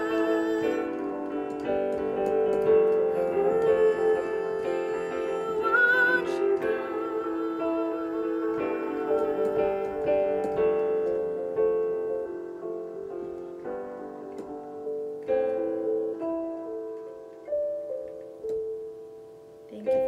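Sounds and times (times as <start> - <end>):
keyboard playing slow chords: 0.0 - 20.0.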